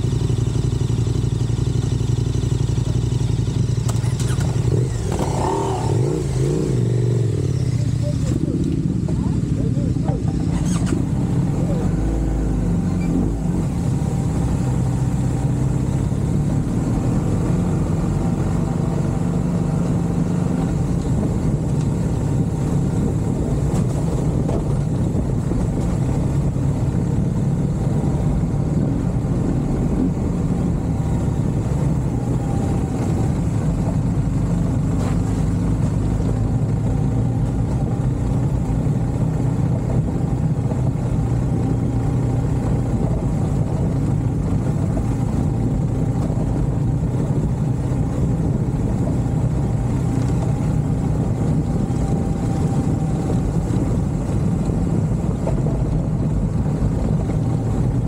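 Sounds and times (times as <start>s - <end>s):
vehicle engine running steadily: 0.0s - 58.0s.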